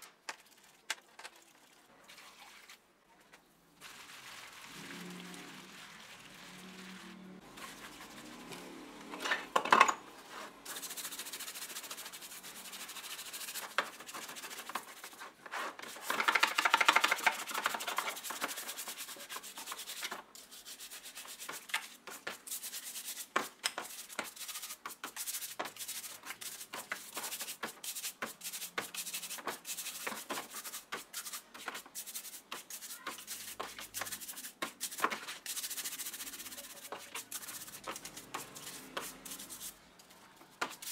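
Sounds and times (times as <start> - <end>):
scouring pad scrubbing plastic: 3.8 - 9.2, 10.2 - 40.9.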